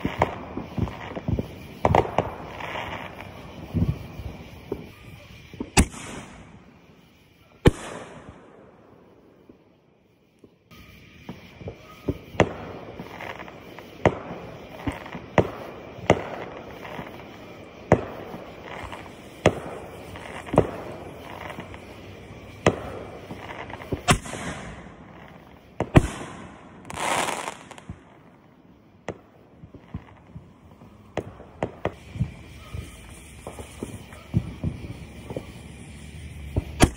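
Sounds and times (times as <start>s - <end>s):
fireworks bangs and pops: 0.0s - 9.7s, 10.3s - 36.9s
fireworks crackling: 0.0s - 36.9s.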